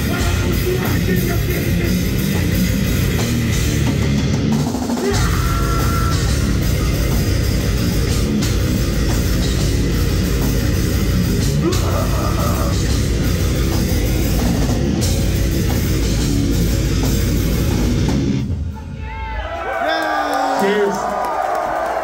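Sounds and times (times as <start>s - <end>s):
distorted electric guitar: 0.0s - 18.5s
fast drum kit: 0.0s - 18.7s.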